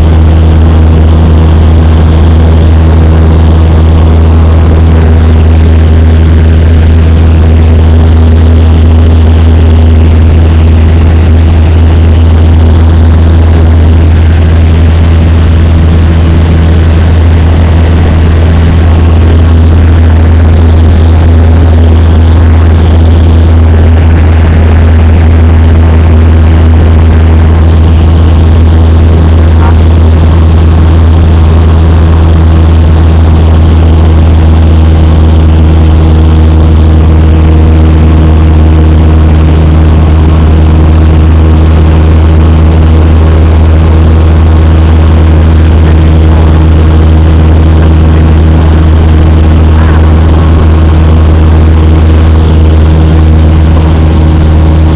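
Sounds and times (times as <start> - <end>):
propeller plane engine hum: 0.0 - 54.9.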